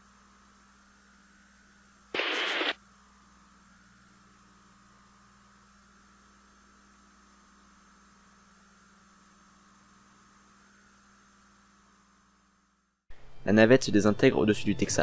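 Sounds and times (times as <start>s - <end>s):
faint electrical hum with hiss: 0.0s - 15.0s
faint high whine: 1.4s - 15.0s.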